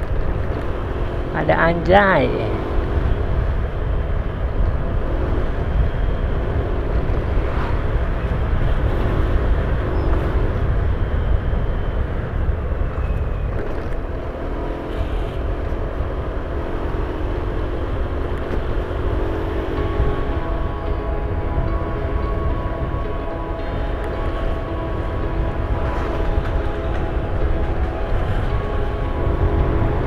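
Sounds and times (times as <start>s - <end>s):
engine hum: 0.0s - 30.0s
vehicle engine and road rumble: 0.0s - 30.0s.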